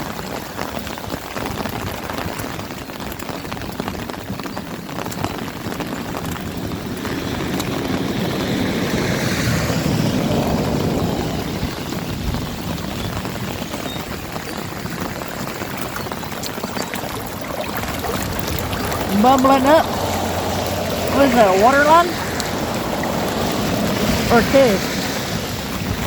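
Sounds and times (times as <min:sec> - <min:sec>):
steady rain: 0:00.0 - 0:26.0
vehicle passing on wet road: 0:03.2 - 0:15.8, 0:17.3 - 0:26.0.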